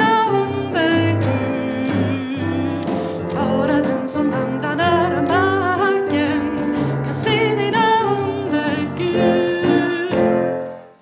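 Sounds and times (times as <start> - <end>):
woman singing with vibrato: 0.0 - 10.8
digital piano: 0.0 - 11.0.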